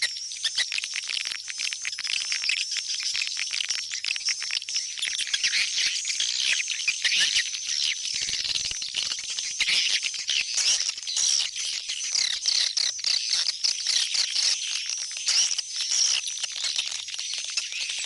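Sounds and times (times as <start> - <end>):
swiftlets chirping and twittering: 0.0 - 18.0.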